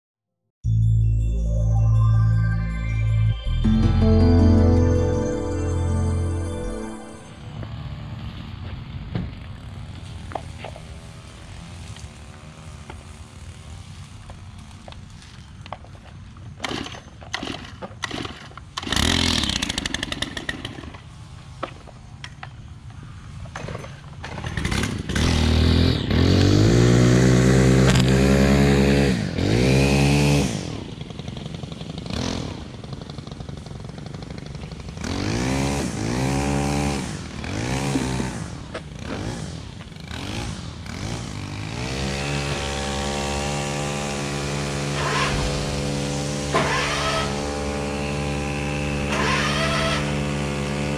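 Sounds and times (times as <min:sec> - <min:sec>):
small gasoline engines revving: 0:07.7 - 0:15.9, 0:16.5 - 0:22.2, 0:23.4 - 0:50.9.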